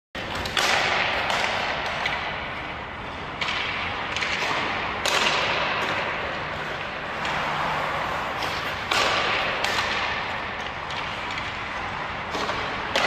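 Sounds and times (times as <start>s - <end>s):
hockey stick cracking puck: 0.2s - 2.7s, 3.3s - 13.0s
light taps of pucks and sticks: 0.2s - 7.4s, 8.3s - 13.0s.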